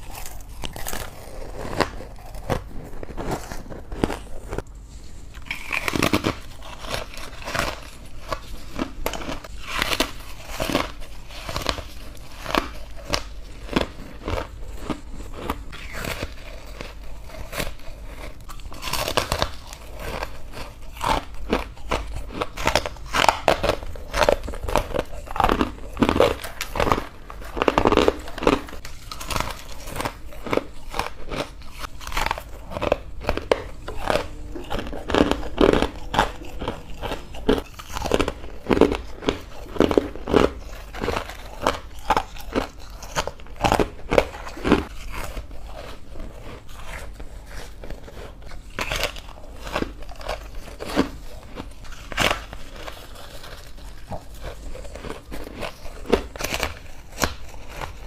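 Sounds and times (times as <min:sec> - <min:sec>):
chewing crunchy frost: 0:00.0 - 0:58.0.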